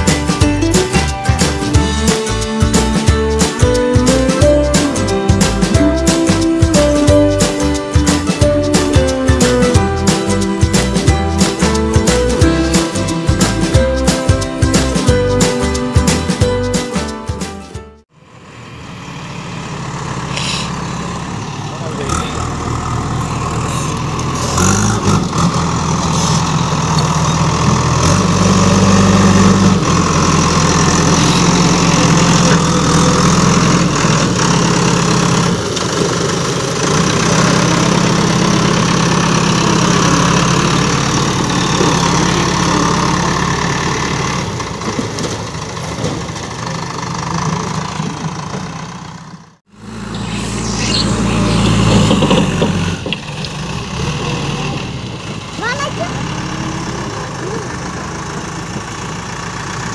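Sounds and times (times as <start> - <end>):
diesel engine working under load: 0.0 - 16.8, 18.1 - 59.9.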